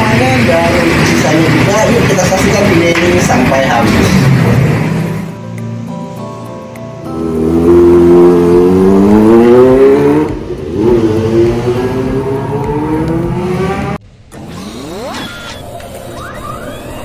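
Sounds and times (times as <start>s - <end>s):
motorcycle engine revving hard: 0.0s - 5.3s, 7.1s - 15.5s.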